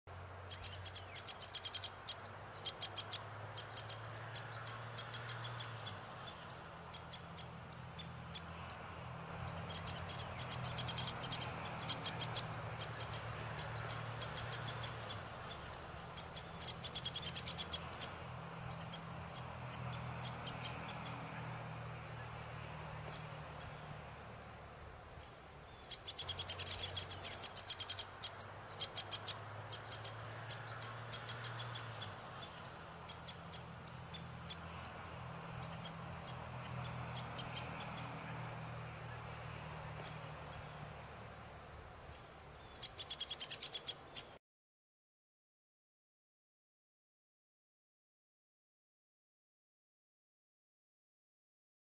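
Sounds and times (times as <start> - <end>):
birds chirping: 0.1 - 44.4.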